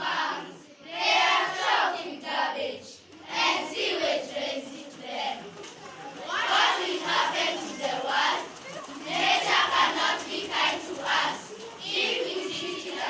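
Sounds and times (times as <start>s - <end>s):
children shouting and chanting: 0.0s - 13.0s.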